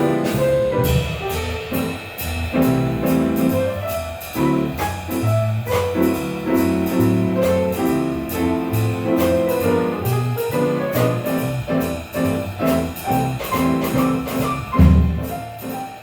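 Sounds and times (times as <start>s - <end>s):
bass line: 0.0s - 15.8s
piano chords and melody: 0.0s - 16.0s.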